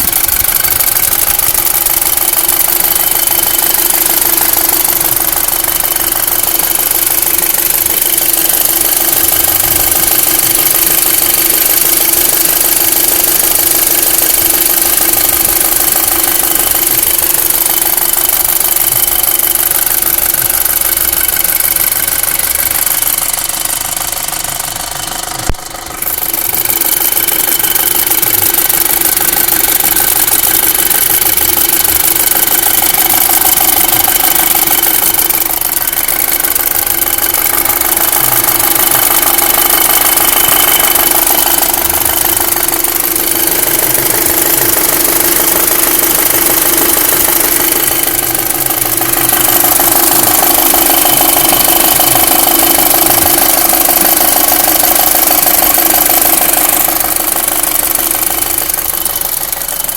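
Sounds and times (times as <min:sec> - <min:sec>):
car engine running: 0:00.0 - 0:59.9
unusual mechanical engine noise: 0:00.0 - 0:59.9.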